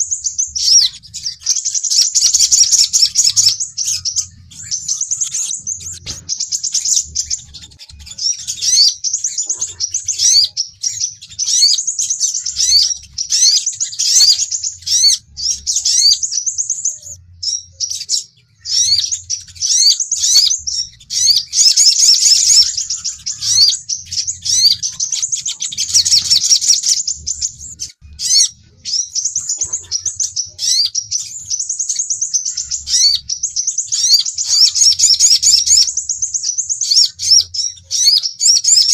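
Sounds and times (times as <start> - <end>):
sunbirds chirping: 0.0 - 38.9.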